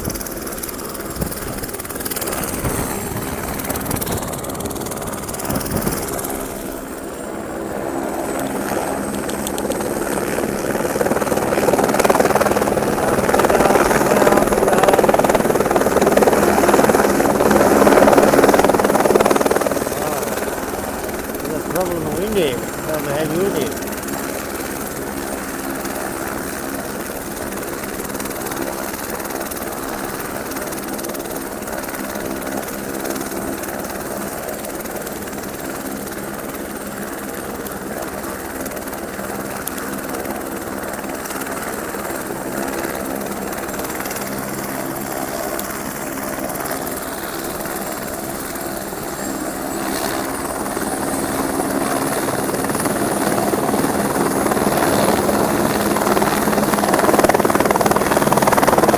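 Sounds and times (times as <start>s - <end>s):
helicopter turbine and rotor: 0.0s - 58.9s.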